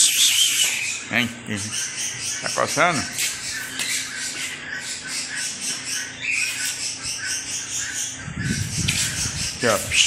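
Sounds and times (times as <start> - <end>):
birds chattering and chirping: 0.0 - 10.0.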